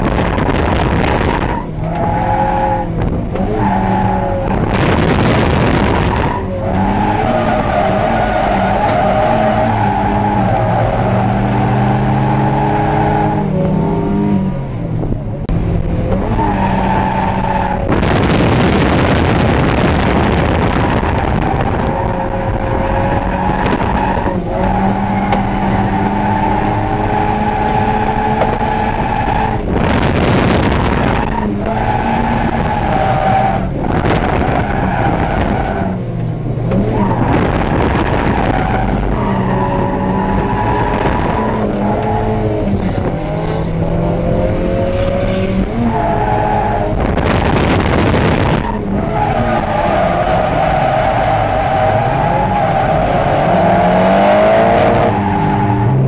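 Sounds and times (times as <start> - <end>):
car engine revving hard: 0.0 - 14.8, 15.6 - 56.0.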